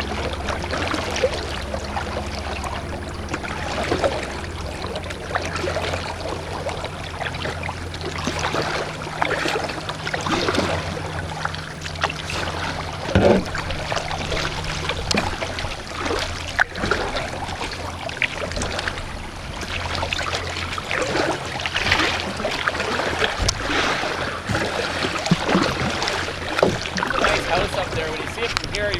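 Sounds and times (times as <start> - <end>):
kayak paddle splashing in water: 0.0 - 28.9
steady low hum: 0.0 - 28.9.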